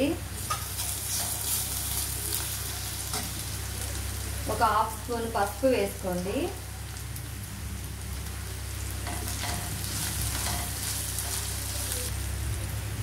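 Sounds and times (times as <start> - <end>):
onions sizzling in hot oil: 0.0 - 12.9.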